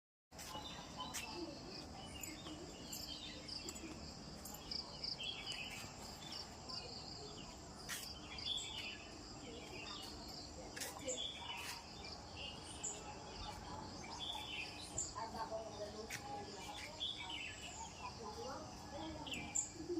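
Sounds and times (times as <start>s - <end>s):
birds chirping: 0.3s - 19.9s.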